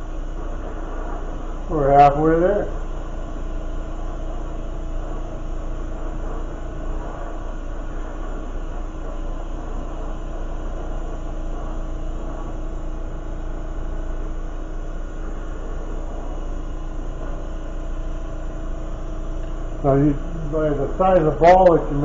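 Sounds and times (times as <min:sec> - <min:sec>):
torch burning with rushing noise: 0:00.0 - 0:22.0.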